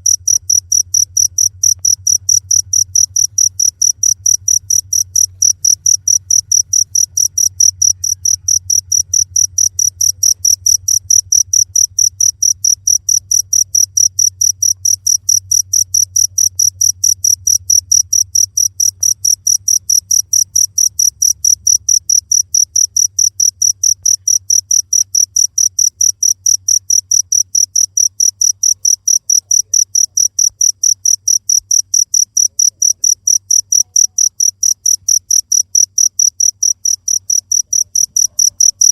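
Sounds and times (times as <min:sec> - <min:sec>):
cricket chirping: 0:00.0 - 0:38.9
faint low hum: 0:00.0 - 0:38.9.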